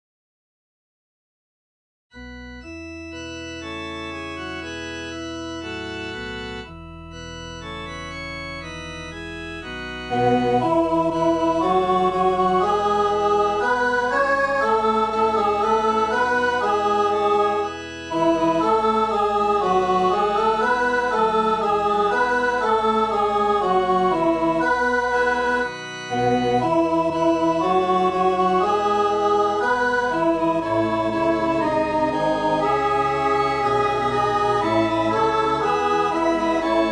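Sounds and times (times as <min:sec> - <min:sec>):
electronic organ playing a hymn: 0:02.1 - 0:36.9.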